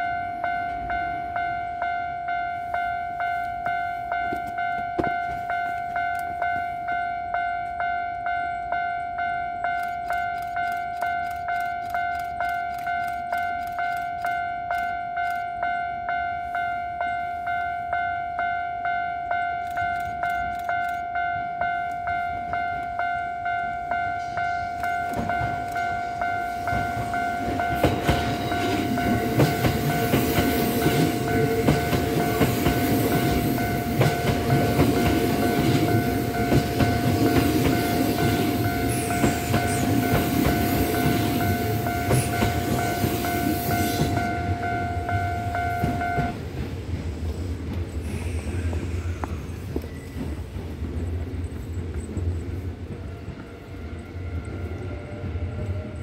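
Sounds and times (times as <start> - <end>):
level crossing bell dinging: 0.0 - 46.4
electric train passing: 0.0 - 56.0
train wheels clattering on rails: 2.8 - 15.7, 19.2 - 56.0.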